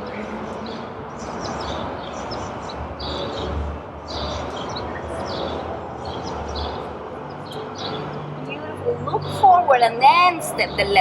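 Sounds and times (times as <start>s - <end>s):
small birds chirping: 0.5s - 9.4s.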